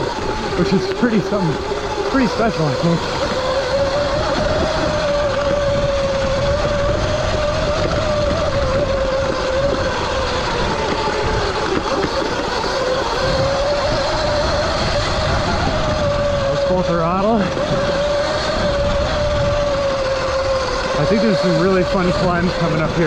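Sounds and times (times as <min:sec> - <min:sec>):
electric motor whining: 0:00.0 - 0:23.0
rough low rumble: 0:00.0 - 0:23.0.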